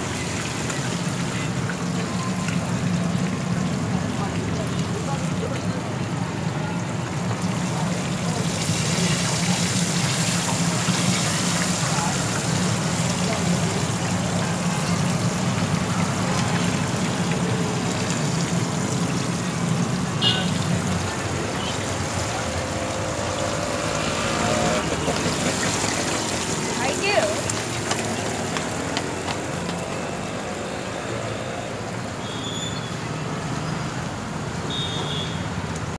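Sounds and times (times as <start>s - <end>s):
fish sizzling in hot oil: 0.0s - 29.7s
roadside traffic noise: 0.0s - 35.9s.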